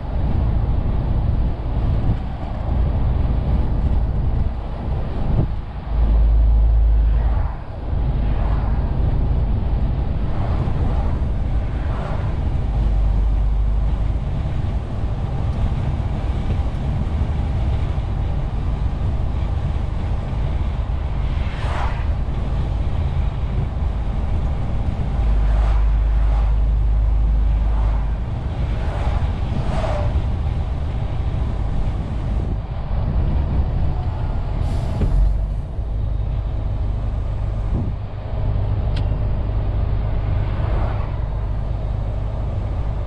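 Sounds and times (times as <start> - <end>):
diesel truck engine rumble: 0.0 - 43.0
road noise: 0.0 - 43.0.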